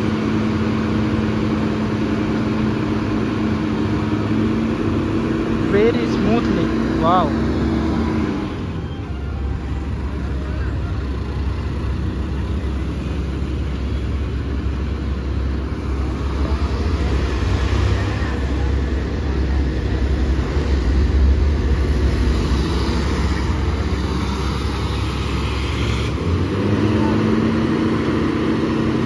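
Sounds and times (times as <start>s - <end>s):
excavator diesel engine under load: 0.0s - 29.0s
truck passing: 0.0s - 29.0s.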